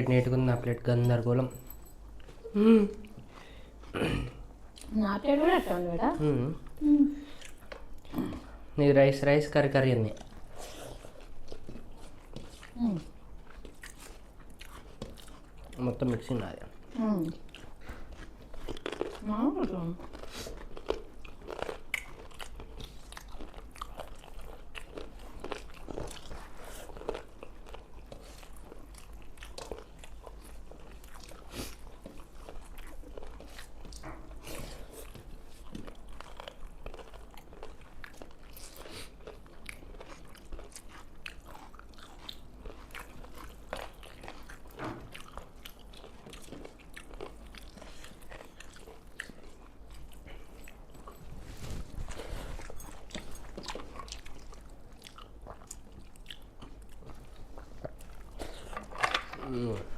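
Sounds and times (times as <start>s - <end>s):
people chewing crunchy food: 0.0s - 59.9s.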